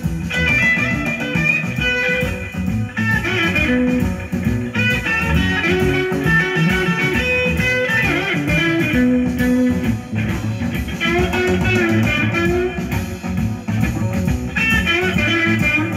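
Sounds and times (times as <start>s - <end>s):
blues music with guitar and bass: 0.0s - 15.9s.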